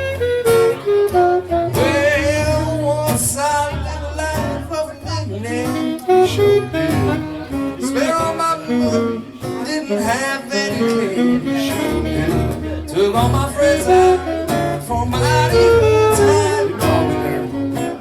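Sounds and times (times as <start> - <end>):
bending blues melody: 0.0 - 18.0
guitar: 0.0 - 18.0
walking bass line: 0.0 - 18.0.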